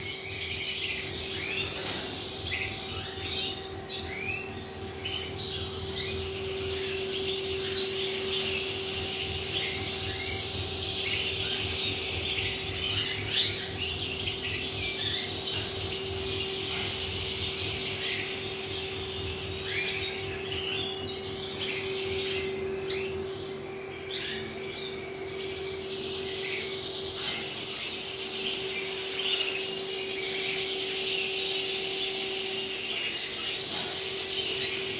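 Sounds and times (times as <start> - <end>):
canary singing: 0.0 - 34.9
low electrical hum: 0.0 - 34.9.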